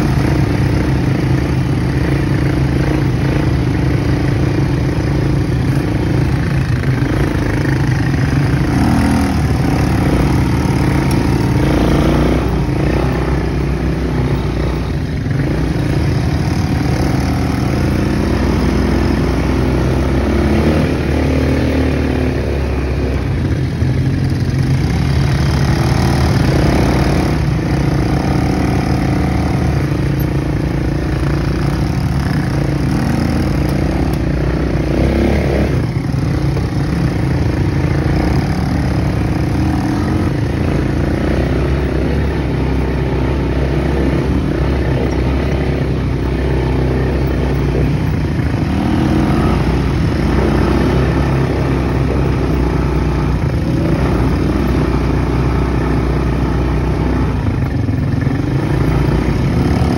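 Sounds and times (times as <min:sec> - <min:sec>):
quad bike engines running: 0:00.0 - 0:59.9.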